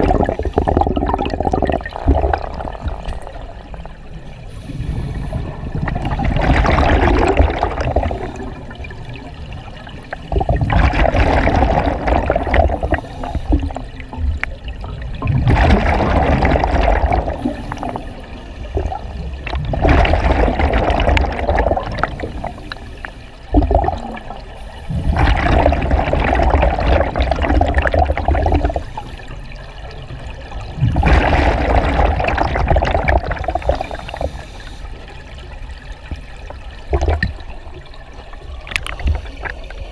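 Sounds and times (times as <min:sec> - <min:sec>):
gurgling underwater bubbles: 0:00.0 - 0:39.9.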